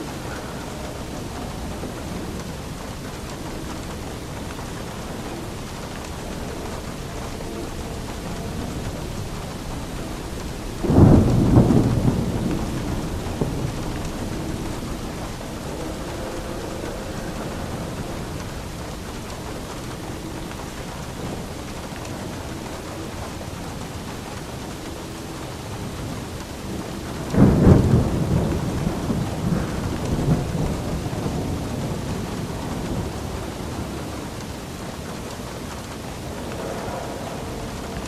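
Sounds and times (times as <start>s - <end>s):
steady rain: 0.0s - 38.0s
thunder clap rumbling: 0.0s - 38.0s.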